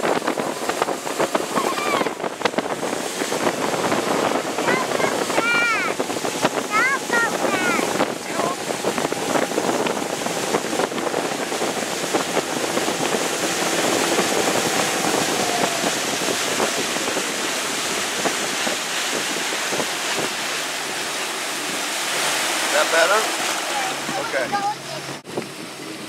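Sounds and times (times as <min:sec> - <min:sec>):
boat wake churning: 0:00.0 - 0:26.0
wind buffeting microphone: 0:00.0 - 0:26.0.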